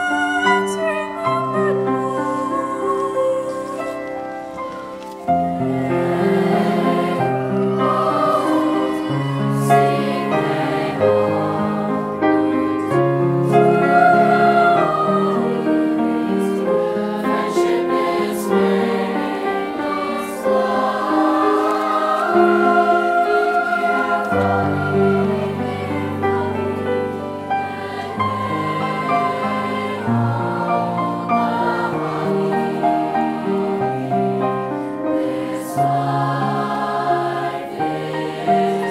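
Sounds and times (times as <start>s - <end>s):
choir singing in parts: 0.0s - 38.9s
piano accompaniment: 0.0s - 38.9s.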